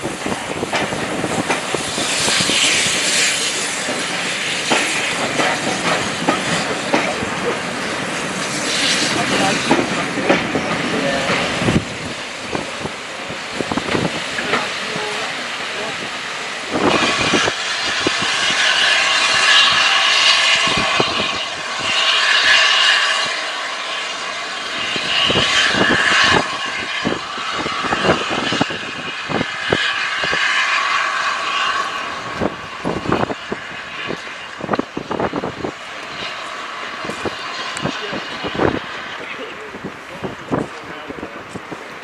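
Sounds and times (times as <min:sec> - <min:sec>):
train wheels rushing on rails: 0:00.0 - 0:42.0.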